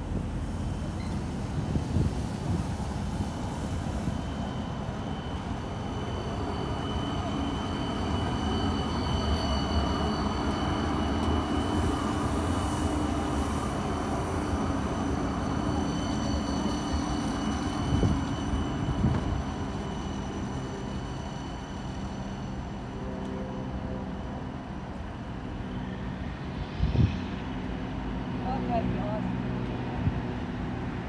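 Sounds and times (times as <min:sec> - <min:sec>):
high-pitched tram whine: 0:00.0 - 0:31.0
tram rumble: 0:00.0 - 0:31.0.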